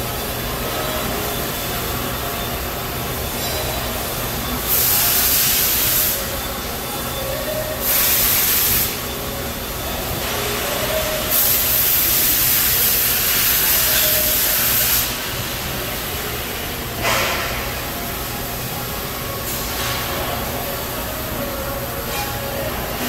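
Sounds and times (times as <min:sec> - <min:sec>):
machining center humming: 0:00.0 - 0:23.0.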